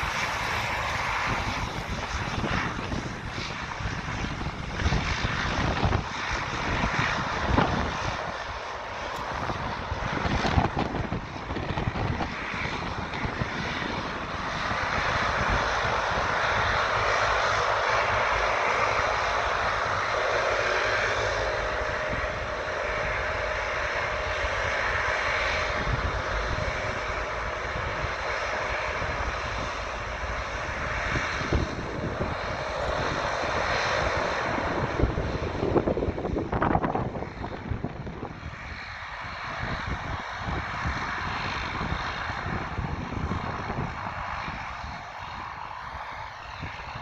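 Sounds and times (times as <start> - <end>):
airplane engines running: 0.0 - 47.0
wind buffeting microphone: 0.0 - 47.0.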